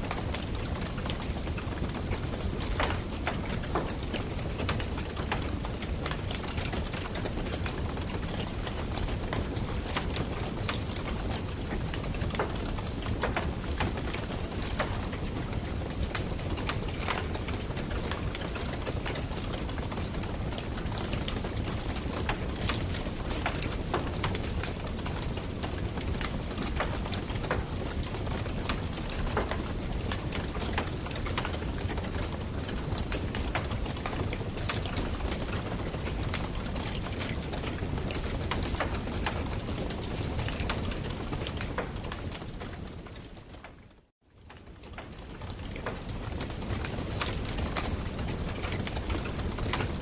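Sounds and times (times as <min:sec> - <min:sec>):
campfire crackles and pops: 0:00.7 - 0:43.6, 0:44.8 - 0:50.0.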